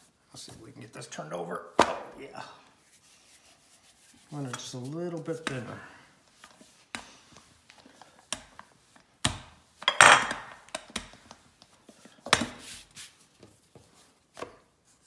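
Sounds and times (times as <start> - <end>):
rolling pin on dough: 2.8 - 15.0.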